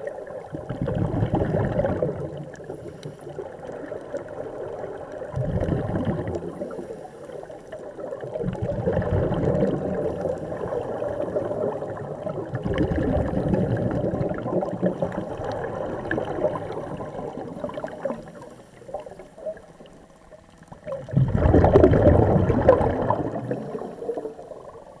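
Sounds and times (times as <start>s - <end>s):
air bubbling underwater: 0.4s - 2.7s, 3.4s - 6.7s, 8.2s - 19.6s, 20.7s - 25.0s.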